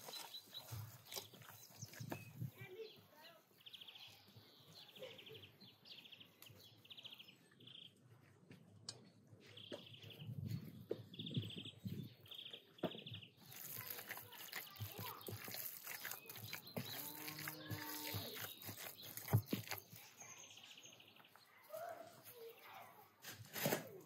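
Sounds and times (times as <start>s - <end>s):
bird song trills: 0.0s - 8.0s, 8.9s - 21.5s.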